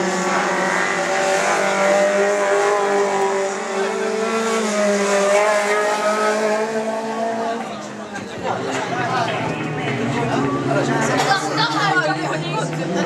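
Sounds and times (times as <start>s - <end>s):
race car engines revving: 0.0s - 13.0s.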